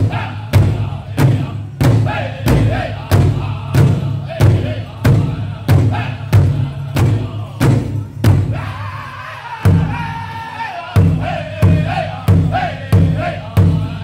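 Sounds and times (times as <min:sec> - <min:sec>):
large drum beating: 0:00.0 - 0:08.7, 0:11.0 - 0:14.0
high-pitched group singing: 0:00.0 - 0:14.0.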